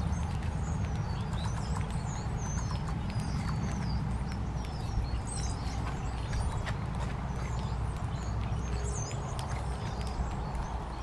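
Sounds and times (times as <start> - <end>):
small songbirds chirping: 0.0 - 11.0
soft ticks: 0.0 - 11.0
steady low rumble: 0.0 - 11.0.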